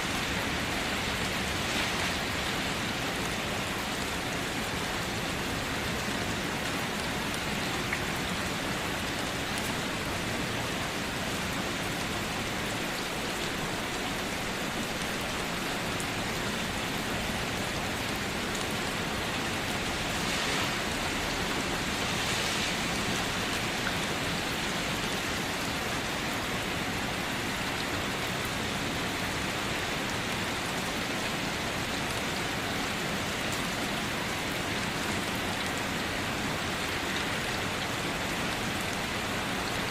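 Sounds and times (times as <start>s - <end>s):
rain pattering on surface: 0.0s - 39.9s.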